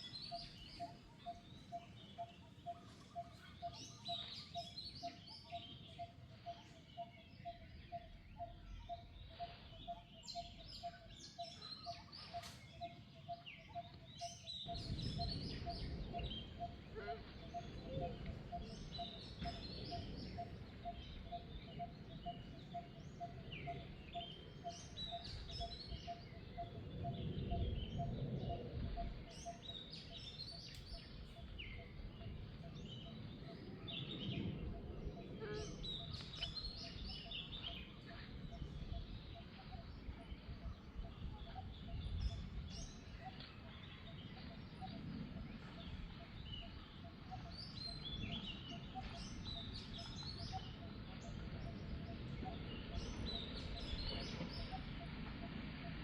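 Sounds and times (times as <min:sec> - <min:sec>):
birds chirping: 0:00.0 - 0:55.7.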